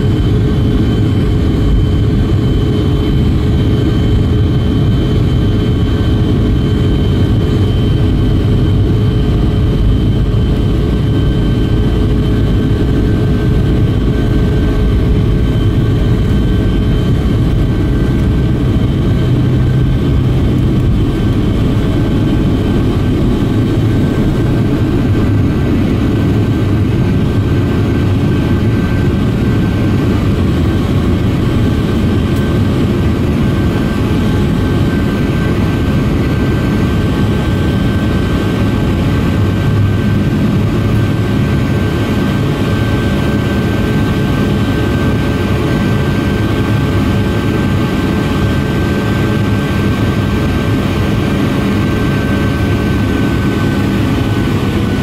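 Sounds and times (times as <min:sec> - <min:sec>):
jet engines rumbling in cabin: 0:00.0 - 0:55.0
thin engine whine: 0:00.0 - 0:55.0.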